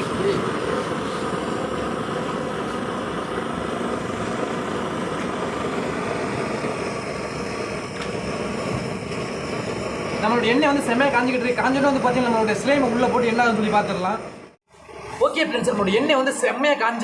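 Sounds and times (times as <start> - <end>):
stove burner rushing: 0.0 - 16.9.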